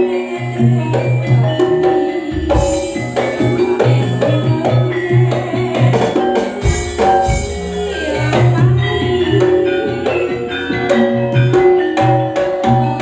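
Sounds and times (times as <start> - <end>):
struck metal percussion: 0.0 - 13.0
low drum pattern: 1.5 - 12.8.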